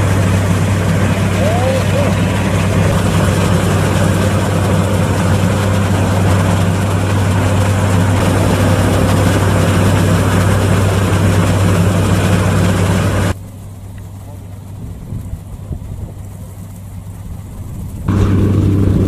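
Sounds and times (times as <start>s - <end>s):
combine harvester engine drone: 0.0s - 19.0s
threshing machinery hum: 0.0s - 19.0s.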